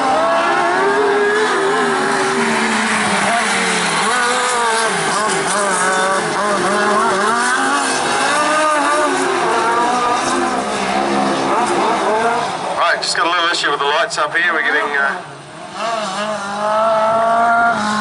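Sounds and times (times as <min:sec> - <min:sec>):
sidecar engines racing and revving: 0:00.0 - 0:18.0.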